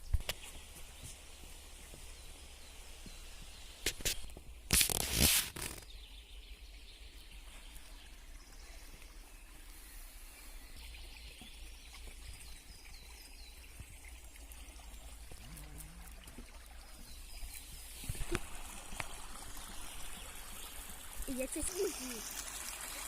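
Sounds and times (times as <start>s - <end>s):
low forest rush: 0.0s - 23.0s.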